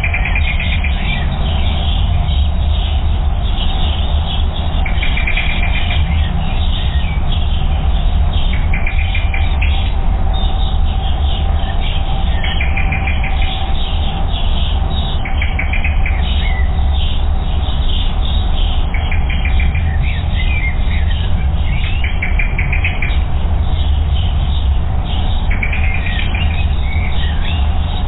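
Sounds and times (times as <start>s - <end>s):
small songbirds singing: 0.0s - 28.0s
steady low rumble: 0.0s - 28.0s.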